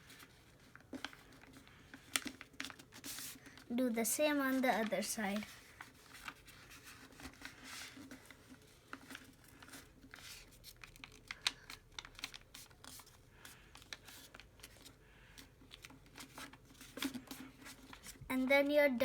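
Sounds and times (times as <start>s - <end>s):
paper crinkling while folded: 0.0s - 19.0s.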